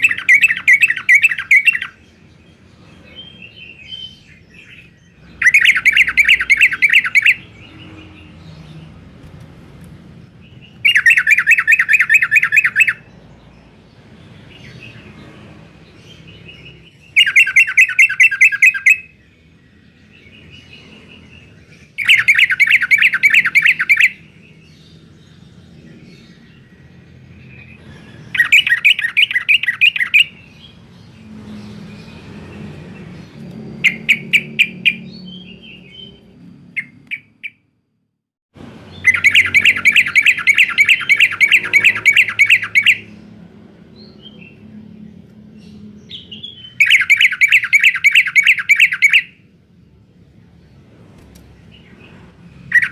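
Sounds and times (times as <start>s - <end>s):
soft bird chirps: 0.0s - 37.7s, 38.9s - 43.3s, 43.9s - 52.9s.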